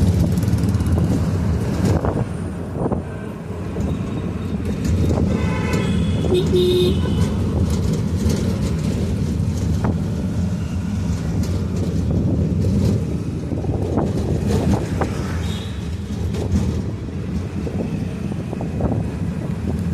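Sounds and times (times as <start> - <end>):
vehicle rumble: 0.0 - 19.9
wind noise on microphone: 0.0 - 19.9.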